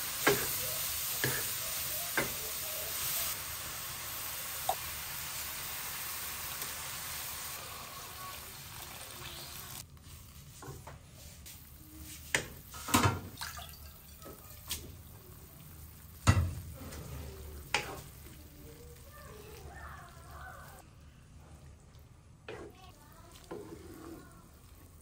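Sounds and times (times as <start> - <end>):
water hissing in a hot wok: 0.0 - 20.8.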